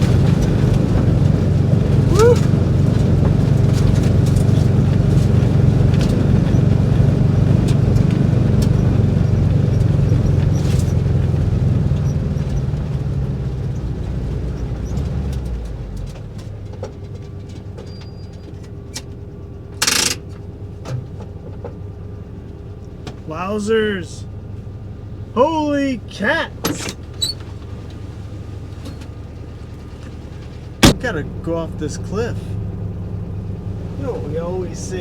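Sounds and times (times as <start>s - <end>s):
van engine labouring: 0.0s - 35.0s.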